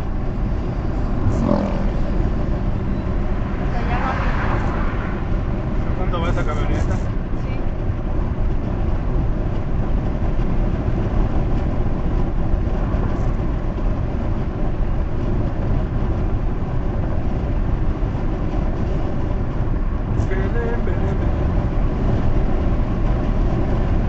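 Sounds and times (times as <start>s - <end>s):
low engine hum: 0.0s - 24.0s
road and tyre noise: 0.0s - 24.0s.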